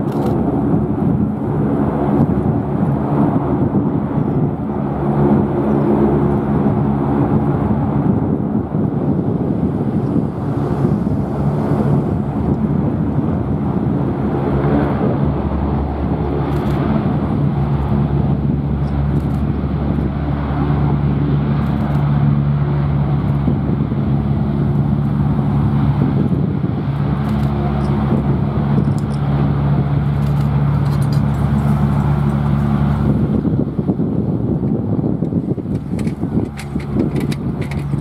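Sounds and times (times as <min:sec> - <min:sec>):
turboprop engines droning: 0:00.0 - 0:38.0.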